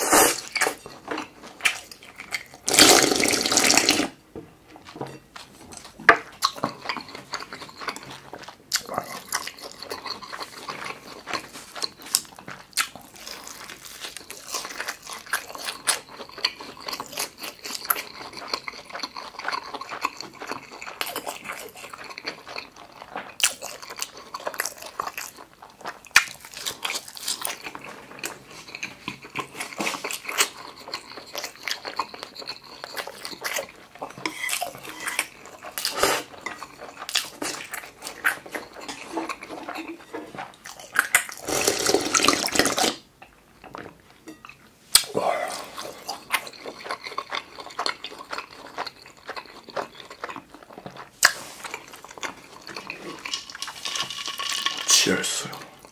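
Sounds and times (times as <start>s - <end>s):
person chewing food: 0.0s - 4.1s, 4.7s - 55.9s.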